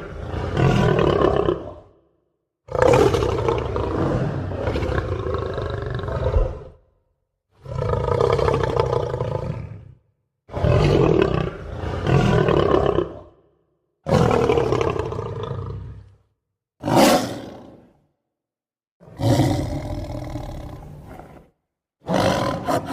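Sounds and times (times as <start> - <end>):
lion roaring: 0.0 - 2.0, 2.7 - 6.9, 7.6 - 16.2, 16.8 - 18.0, 19.0 - 22.9.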